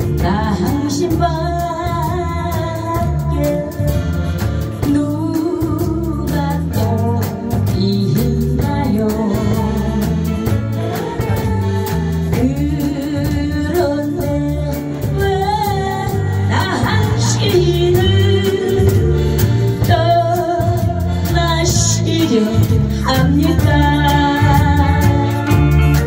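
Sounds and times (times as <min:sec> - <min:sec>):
live band playing: 0:00.0 - 0:26.0
woman singing a ballad: 0:00.0 - 0:26.0.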